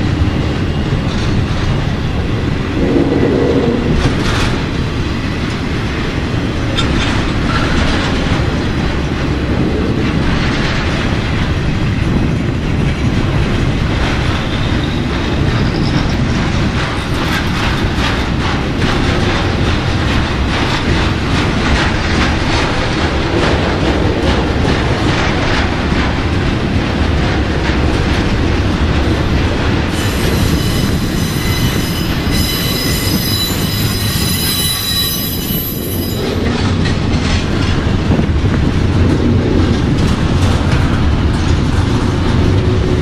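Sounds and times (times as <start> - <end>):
train wheels rumbling: 0.0 - 43.0
wheels clacking over rail joints: 0.0 - 43.0.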